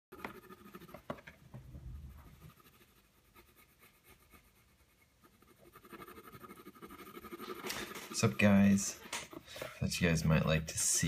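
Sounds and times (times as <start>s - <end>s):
colored pencil scratching on paper: 0.1s - 1.3s, 1.9s - 10.9s.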